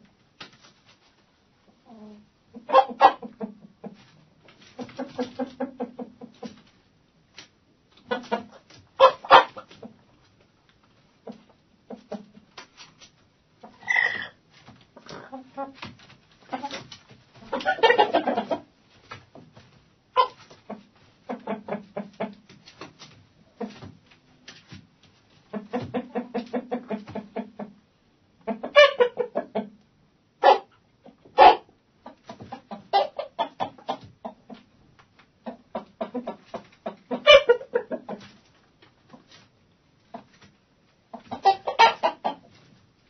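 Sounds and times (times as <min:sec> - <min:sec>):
hens clucking: 0:01.7 - 0:06.8, 0:07.4 - 0:10.2, 0:11.0 - 0:19.4, 0:20.2 - 0:23.9, 0:24.5 - 0:42.8.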